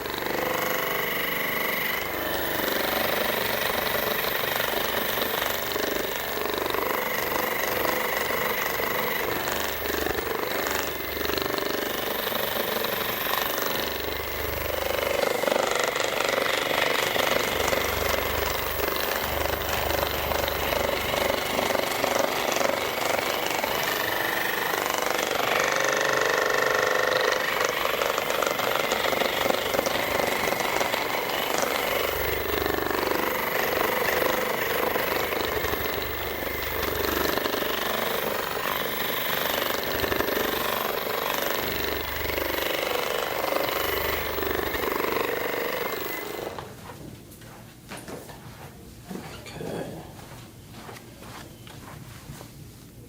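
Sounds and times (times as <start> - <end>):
massage gun hammering buzz: 0.0 - 46.8.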